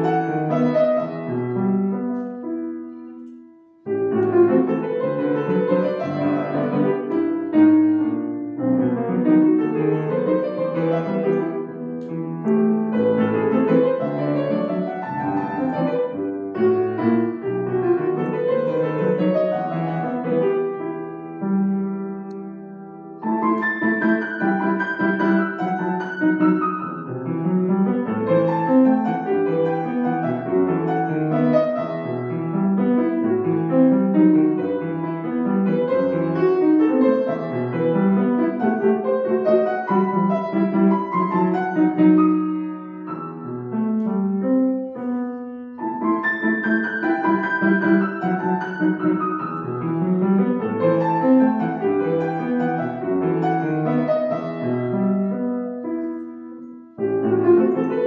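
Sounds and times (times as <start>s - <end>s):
solo grand piano playing: 0.0s - 58.0s.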